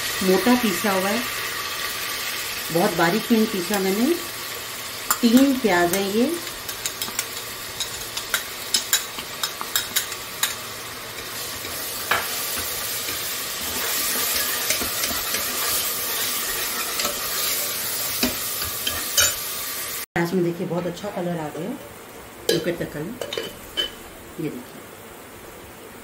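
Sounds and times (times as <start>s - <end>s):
onions sizzling in hot fat: 0.0s - 26.0s.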